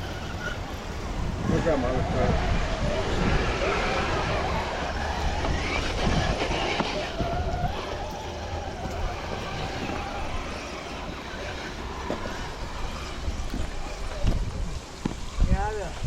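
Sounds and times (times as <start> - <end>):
electric motor whining: 0.0 - 16.0
wind rumble on microphone: 0.0 - 16.0.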